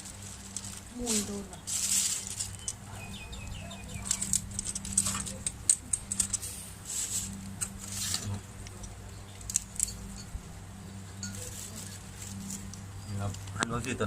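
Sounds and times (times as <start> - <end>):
soft rustles: 0.0 - 9.8, 11.2 - 13.6.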